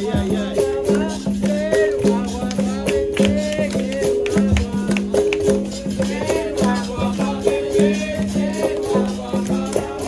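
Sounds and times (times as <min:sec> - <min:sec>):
caxixi rattle shaking: 0:00.0 - 0:10.0
hand percussion striking: 0:00.0 - 0:10.0
voices singing: 0:00.0 - 0:10.0.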